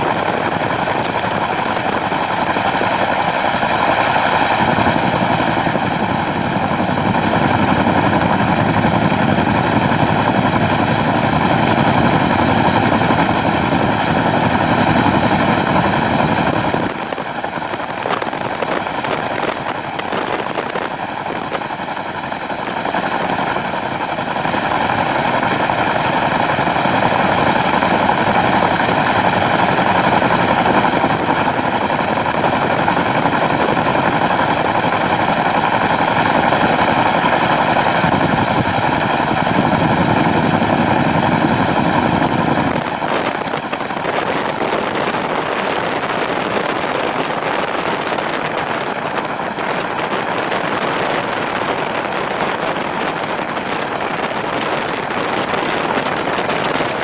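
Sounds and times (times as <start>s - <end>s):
helicopter rotor noise: 0.0s - 57.0s
wind noise on microphone: 0.0s - 57.0s.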